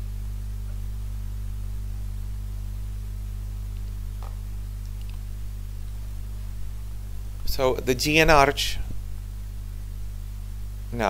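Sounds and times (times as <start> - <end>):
electrical hum: 0.0 - 11.0
faint hiss: 0.0 - 11.0.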